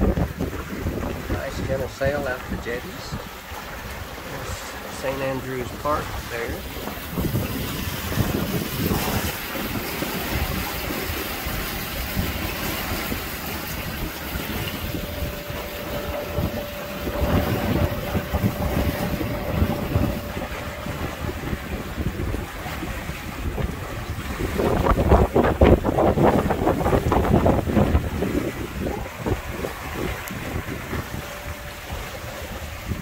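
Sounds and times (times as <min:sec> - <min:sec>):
water rushing along a hull: 0:00.0 - 0:33.0
wind buffeting microphone: 0:00.0 - 0:33.0
faint steady hum: 0:00.1 - 0:33.0.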